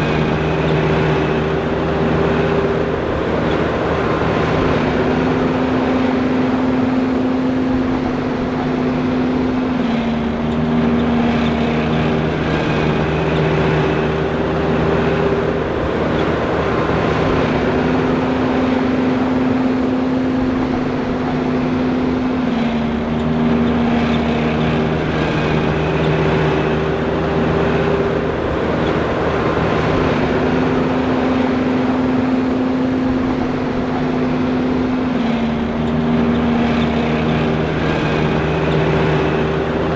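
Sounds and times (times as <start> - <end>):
forage harvester droning: 0.0 - 39.9.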